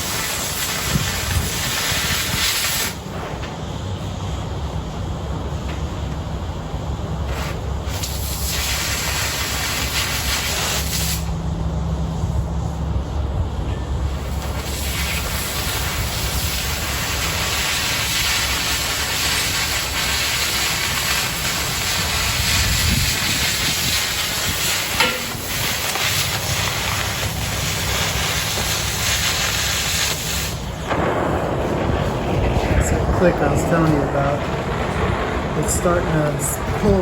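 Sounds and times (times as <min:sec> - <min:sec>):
cutting torch hissing: 0:00.0 - 0:34.6.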